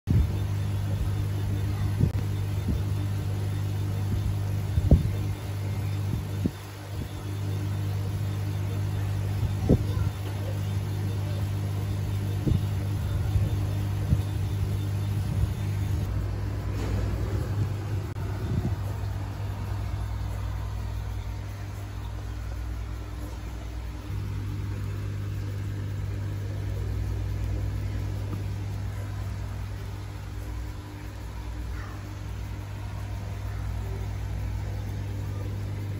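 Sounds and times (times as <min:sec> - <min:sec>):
laser engraver hum: 0:00.1 - 0:35.9.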